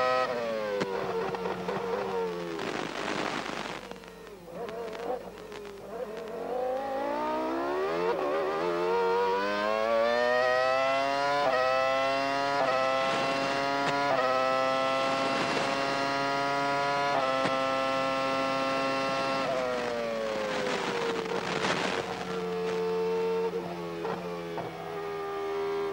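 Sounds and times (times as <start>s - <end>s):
quick gear upshifts: 0.0s - 25.9s
racing car engine accelerating: 4.5s - 25.9s.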